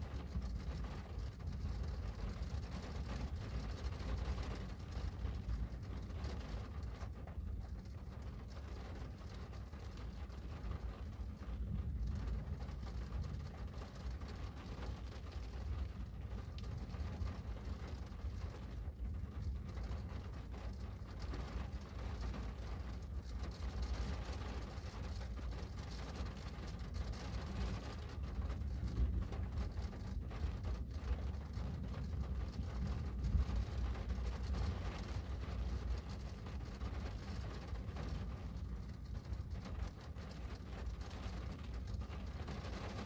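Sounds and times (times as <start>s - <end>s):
rain on a window: 0.0s - 43.0s.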